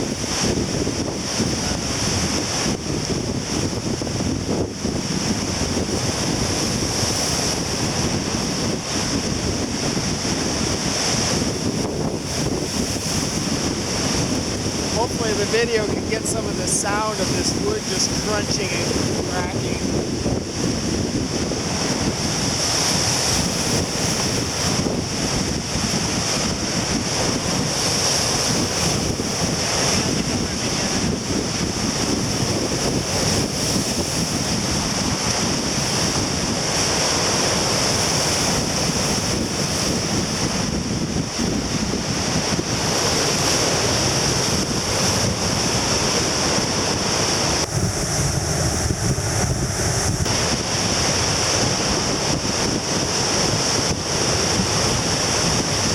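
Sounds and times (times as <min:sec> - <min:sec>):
heavy surf breaking: 0:00.0 - 0:55.9
wind buffeting microphone: 0:00.0 - 0:55.9.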